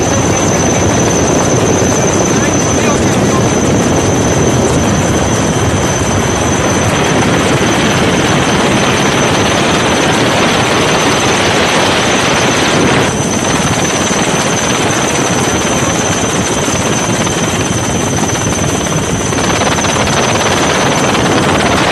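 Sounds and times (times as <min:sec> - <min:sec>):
constant high whine: 0:00.0 - 0:21.9
helicopter rotor and engine rush: 0:00.0 - 0:21.9.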